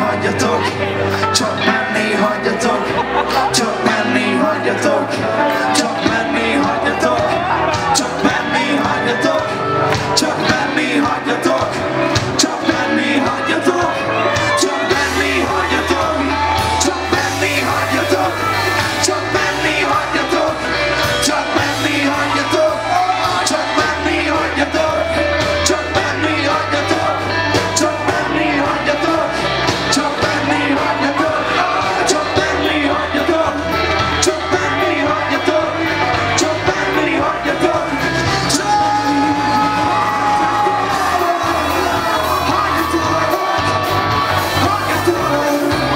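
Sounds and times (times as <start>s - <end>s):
bass line: 0.0s - 45.9s
person singing lead vocal: 0.0s - 45.9s
rock band playing: 0.0s - 45.9s.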